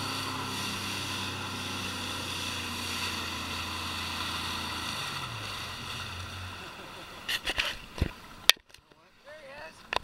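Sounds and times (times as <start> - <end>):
watercraft engine drone: 0.0 - 8.6.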